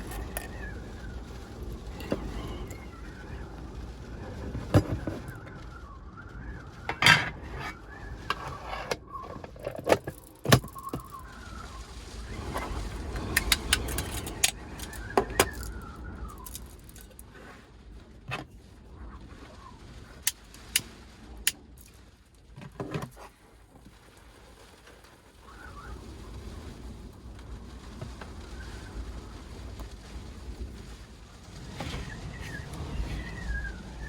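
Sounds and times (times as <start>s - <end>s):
faint wavering wind whistle: 0.0s - 21.8s, 25.2s - 34.0s
storm wind buffeting a van: 0.0s - 34.0s.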